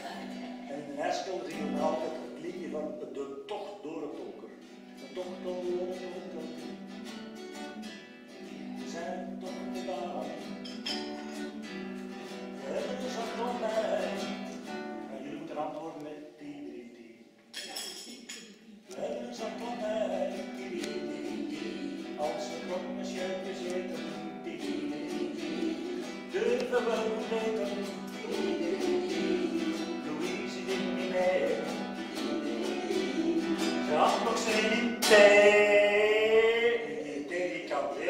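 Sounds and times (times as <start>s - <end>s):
strummed classical guitar: 0.0s - 16.2s, 18.8s - 38.0s
man singing: 0.7s - 7.2s, 8.4s - 10.8s, 12.5s - 17.3s, 18.9s - 38.0s.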